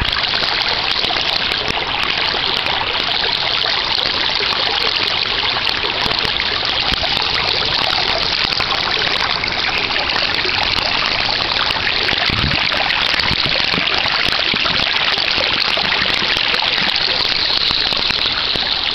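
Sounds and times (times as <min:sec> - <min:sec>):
stream flowing over rocks: 0:00.0 - 0:18.9.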